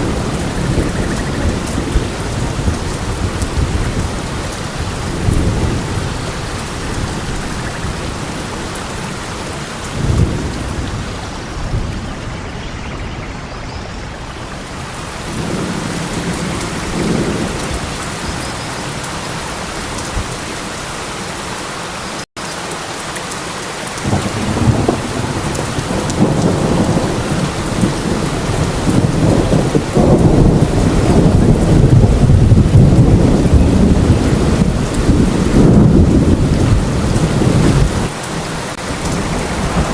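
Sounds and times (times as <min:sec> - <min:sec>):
rolling thunder: 0:00.0 - 0:19.4, 0:24.0 - 0:38.2, 0:38.8 - 0:39.9
heavy rain: 0:00.0 - 0:39.9.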